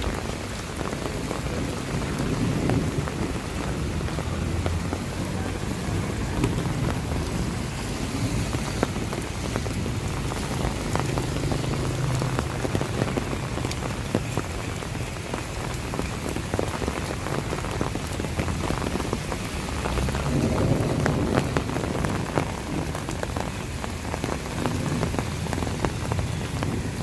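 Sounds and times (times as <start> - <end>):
raindrops ticking: 0.0 - 27.0.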